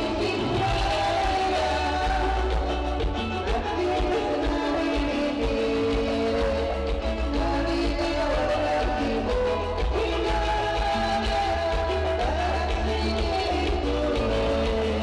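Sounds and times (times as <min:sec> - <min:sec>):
live latin dance band: 0:00.0 - 0:15.0.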